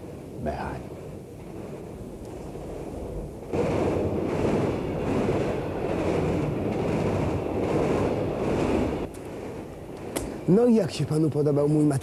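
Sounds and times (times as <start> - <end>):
train rushing and rumbling: 0.0 - 12.0.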